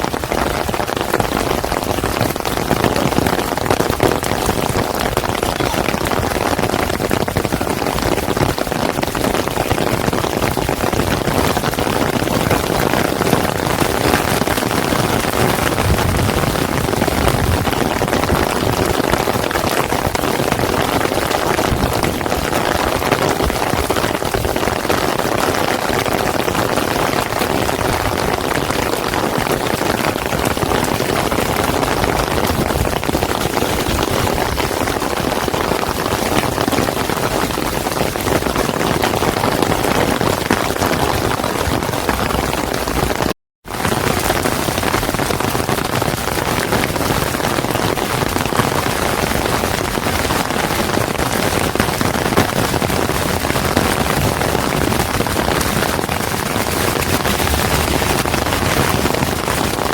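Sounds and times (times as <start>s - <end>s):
rain on hard surfaces: 0.0s - 59.9s.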